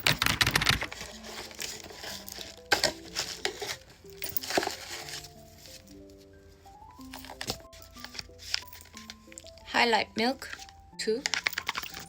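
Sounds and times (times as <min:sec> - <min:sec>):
packaging crinkling and rustling: 0:00.0 - 0:09.6, 0:10.4 - 0:12.0
soft music: 0:00.0 - 0:12.0.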